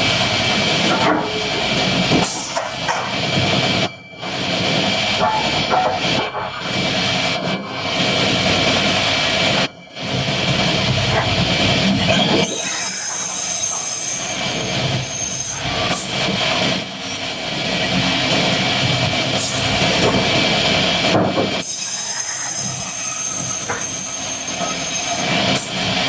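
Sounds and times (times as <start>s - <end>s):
wood-cutting machinery running: 0.0s - 26.0s.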